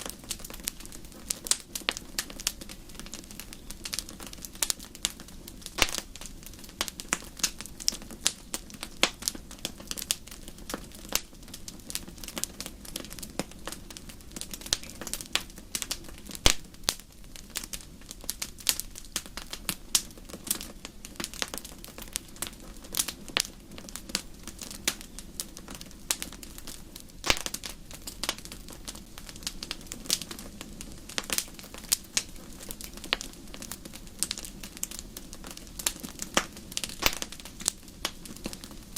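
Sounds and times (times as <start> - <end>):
campfire crackling and popping: 0.0 - 38.9
low rumble of burning: 0.0 - 38.9
sharp snaps of fire: 0.0 - 38.9.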